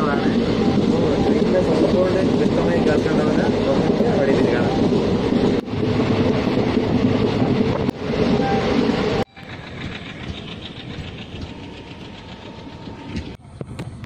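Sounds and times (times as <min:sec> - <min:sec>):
train running noise inside coach: 0:00.0 - 0:14.0.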